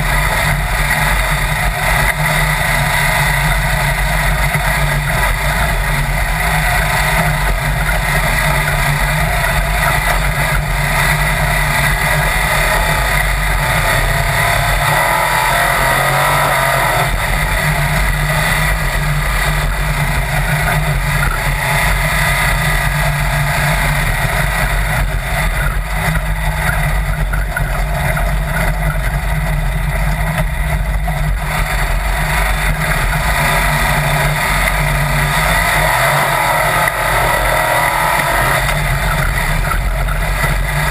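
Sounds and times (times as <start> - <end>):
dune buggy engine running: 0.0 - 40.9.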